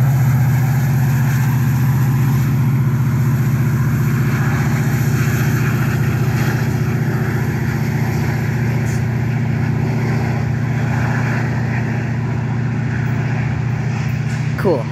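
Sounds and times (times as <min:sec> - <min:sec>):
diesel locomotive engine droning: 0:00.0 - 0:14.9.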